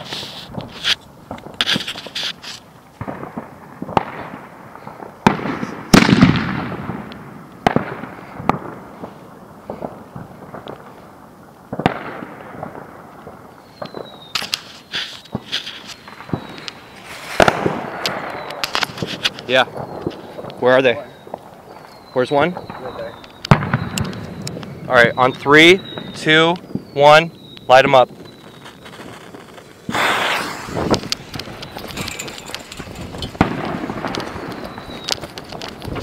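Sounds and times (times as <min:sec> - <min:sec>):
fireworks bangs and cracks: 0:00.0 - 0:36.0.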